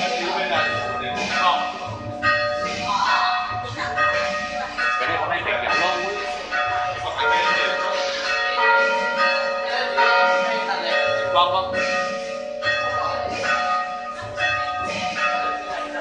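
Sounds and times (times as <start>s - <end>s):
church bells tolling: 0.0s - 16.0s.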